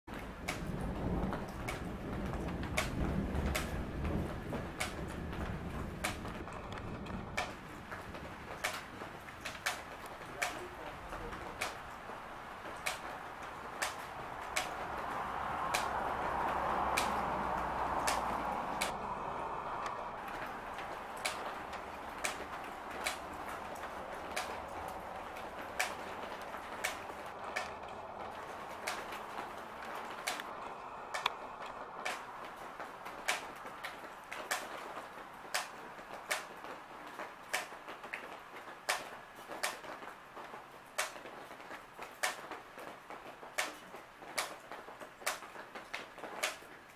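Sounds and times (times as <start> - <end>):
raindrops tapping hard surface: 0.1 - 46.9
rainfall hiss: 0.1 - 46.9.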